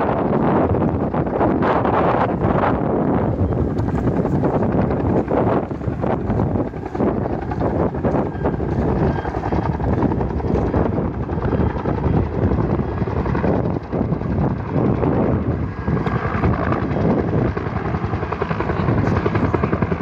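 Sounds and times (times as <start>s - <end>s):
helicopter engine noise: 0.0s - 20.0s
helicopter rotor beating: 0.0s - 20.0s.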